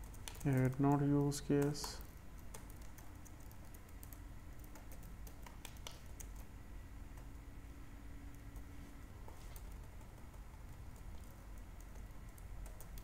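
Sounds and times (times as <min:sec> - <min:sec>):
keyboard typing: 0:00.0 - 0:06.5, 0:08.2 - 0:13.0.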